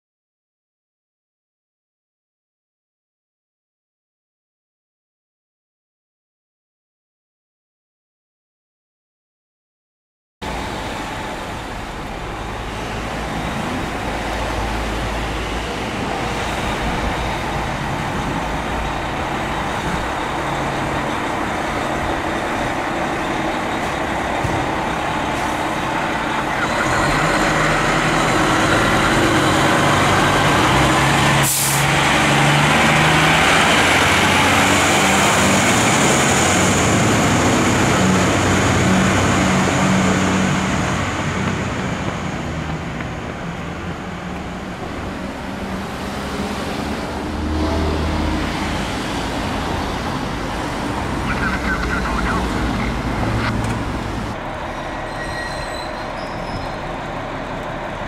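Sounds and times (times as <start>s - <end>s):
fire engine diesel engine: 10.4s - 58.0s.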